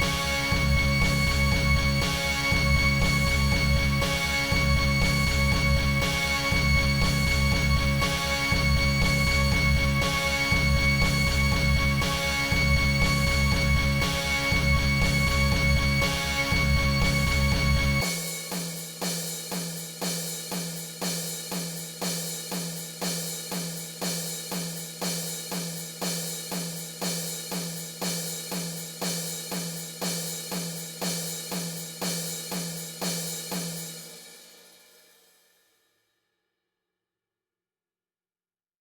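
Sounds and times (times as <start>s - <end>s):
drum kit steady beat: 0.0s - 35.2s.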